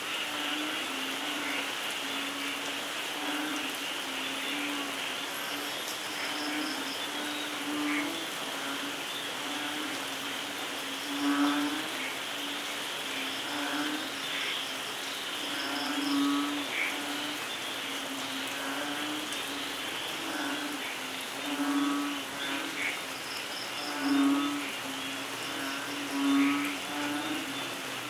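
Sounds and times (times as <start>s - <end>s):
frogs croaking: 0.0s - 28.0s
steady rainfall: 0.0s - 28.0s.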